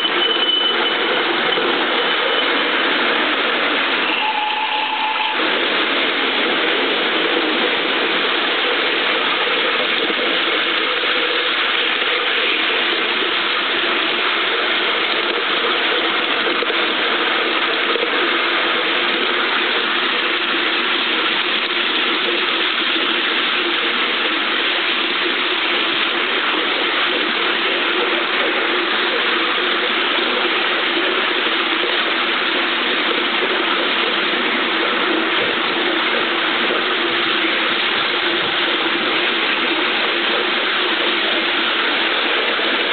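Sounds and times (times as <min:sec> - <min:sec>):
model steam locomotive running: 0:00.0 - 0:42.9.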